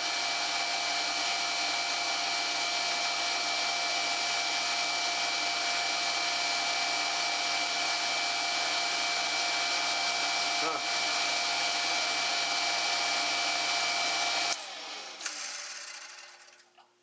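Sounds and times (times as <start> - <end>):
electric pump motor whining: 0.0 - 16.2.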